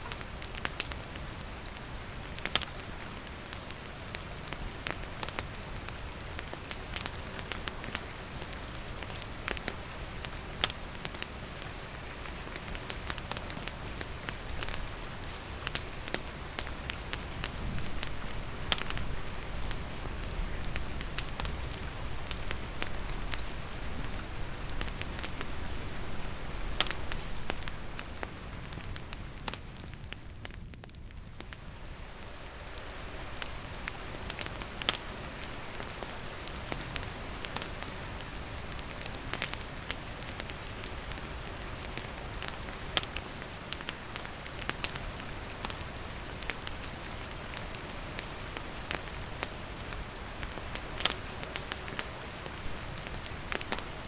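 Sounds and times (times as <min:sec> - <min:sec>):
campfire crackling and popping: 0:00.0 - 0:54.0
rain on leaves and wooden roof: 0:00.0 - 0:54.0.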